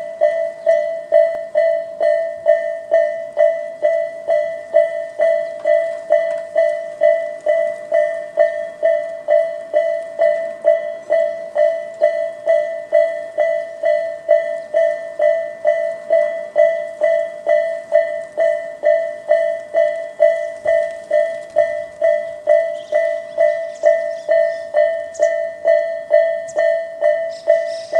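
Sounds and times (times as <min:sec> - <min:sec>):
level crossing warning bell: 0:00.0 - 0:27.9.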